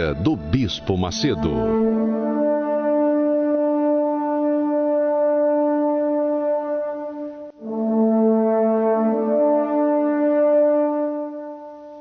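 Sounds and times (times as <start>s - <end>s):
music of slow held chords: 0.0s - 12.0s.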